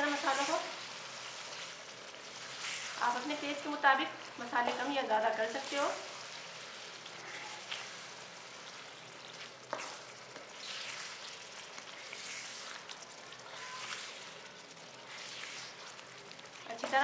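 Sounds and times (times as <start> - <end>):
food sizzling in oil: 0.0 - 17.0
spatula stirring in pot: 0.0 - 17.0.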